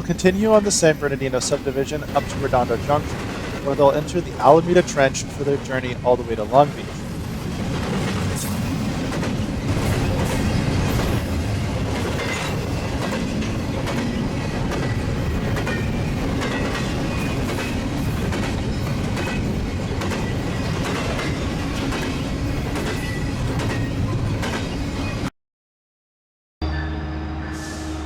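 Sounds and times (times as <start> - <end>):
freight train wheels clicking: 0.0 - 24.7.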